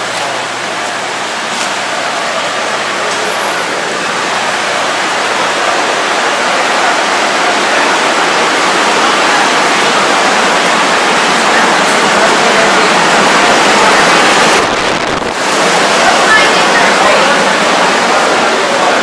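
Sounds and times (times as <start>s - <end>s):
loud rushing noise: 0.0s - 19.0s.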